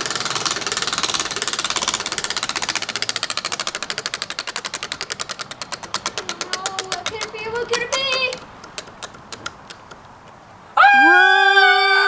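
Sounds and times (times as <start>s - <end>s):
spinning wheel ticking: 0.0s - 10.7s.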